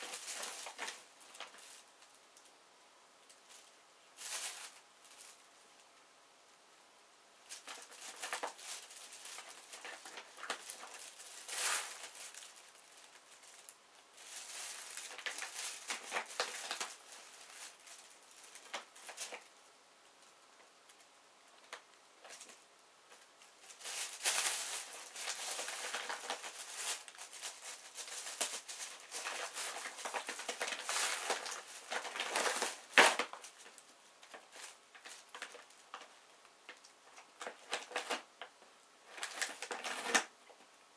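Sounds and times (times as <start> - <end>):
plastic bags crinkling: 0.0 - 2.5, 3.4 - 5.5, 7.5 - 19.5, 21.6 - 40.3.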